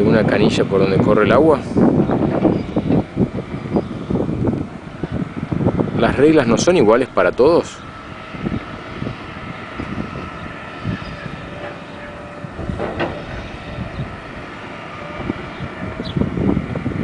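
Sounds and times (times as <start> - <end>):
construction machinery engine drone: 0.0 - 17.0.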